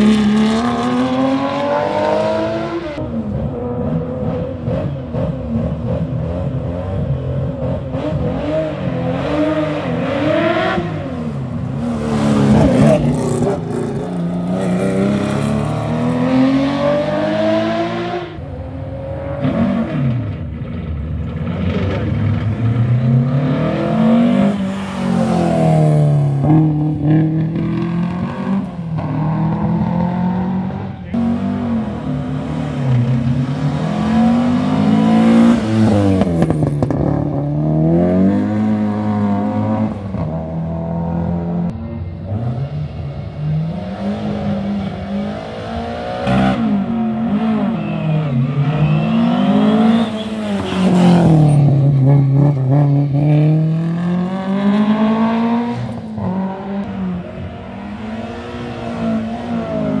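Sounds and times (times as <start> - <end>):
rally car engine revving: 0.0 - 60.0.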